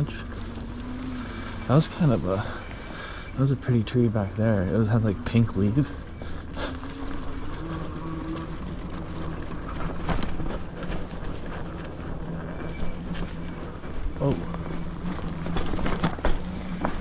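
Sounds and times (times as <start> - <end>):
electric motor humming: 0.0 - 17.0
tyres rolling on trail: 0.0 - 17.0.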